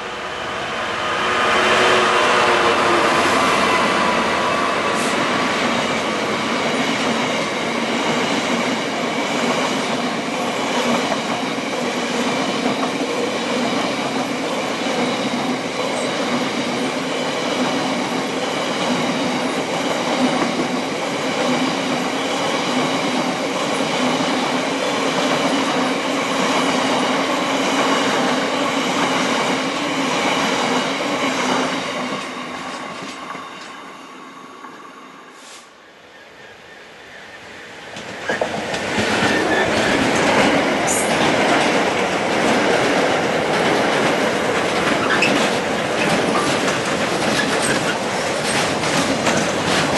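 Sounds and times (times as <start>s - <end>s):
train wheels rumbling on rails: 0.0s - 33.8s, 37.7s - 49.9s.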